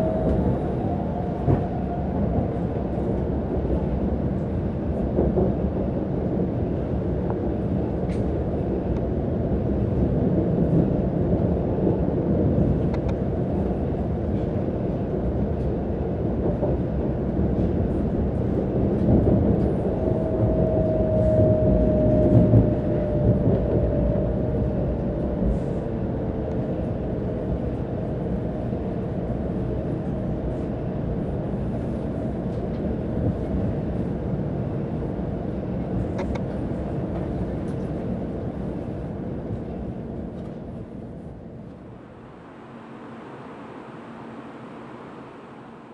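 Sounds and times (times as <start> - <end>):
train cabin rumble: 0.0 - 45.2.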